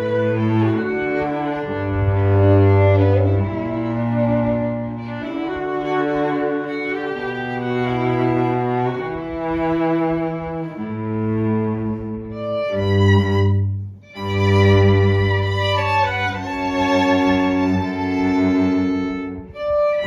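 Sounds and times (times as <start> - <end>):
cello playing: 0.0 - 20.0
violins playing: 0.0 - 20.0.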